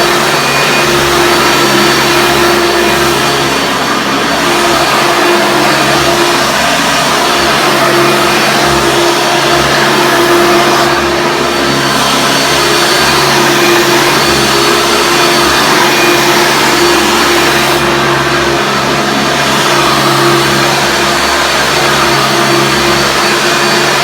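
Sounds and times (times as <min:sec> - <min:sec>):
upright vacuum running: 0:00.0 - 0:24.0.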